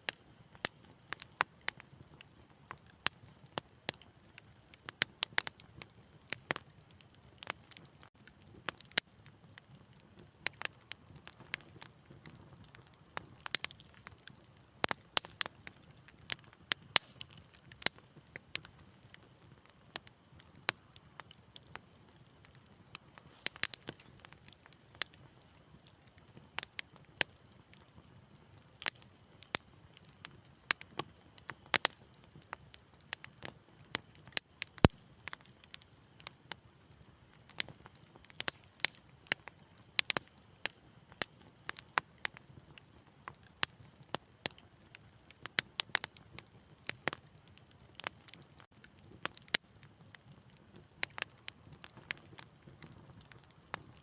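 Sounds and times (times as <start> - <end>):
low hiss of burning: 0.0 - 54.0
wood fire crackling: 0.0 - 54.0.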